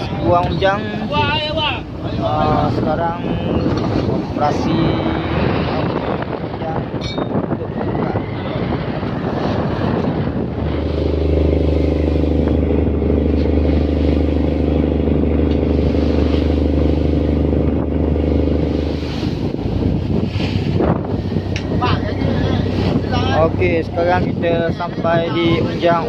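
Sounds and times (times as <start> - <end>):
boat engine running: 0.0 - 26.0
water splashing: 0.0 - 26.0
wind noise: 0.0 - 26.0.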